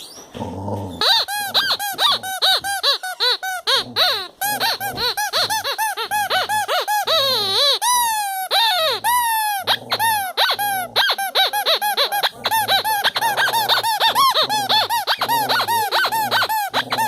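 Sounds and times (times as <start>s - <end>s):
squeaky dog toy squeaking: 1.0s - 17.0s.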